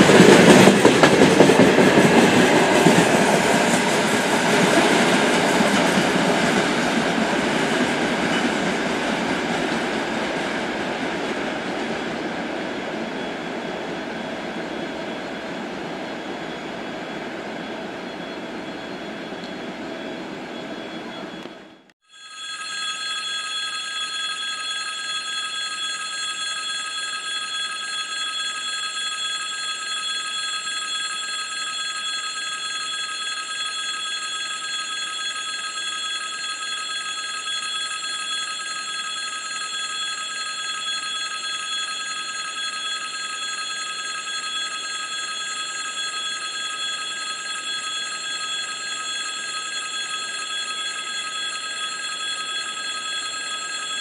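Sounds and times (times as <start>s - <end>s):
level crossing bell ringing: 0.0s - 54.0s.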